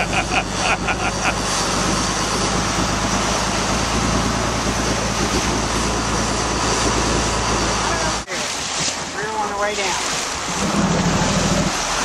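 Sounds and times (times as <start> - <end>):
boat engine droning: 0.0 - 12.0
water rushing past hull: 0.0 - 12.0
wind: 0.0 - 12.0.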